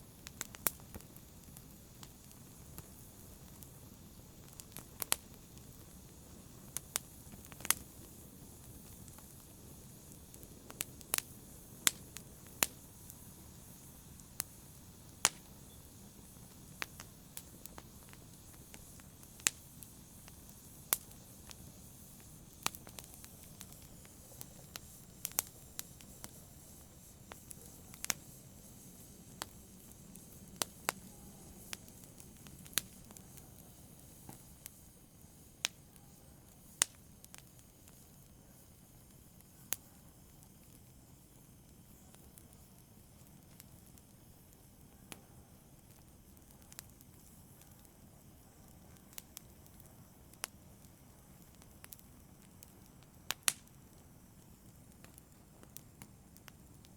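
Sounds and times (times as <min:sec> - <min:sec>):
faint low hiss: 0:00.0 - 0:56.9
fireplace fire crackling: 0:00.0 - 0:56.9.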